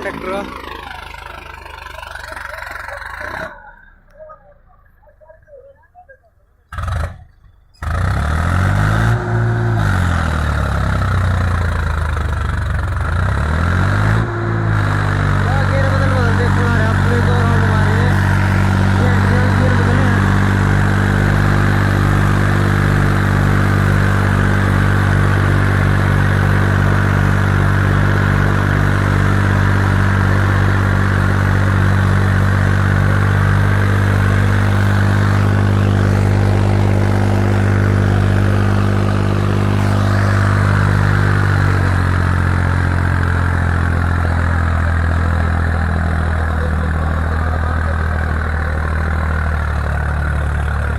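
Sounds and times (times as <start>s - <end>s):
tractor diesel engine at high revs: 0.0s - 5.1s, 6.7s - 50.9s.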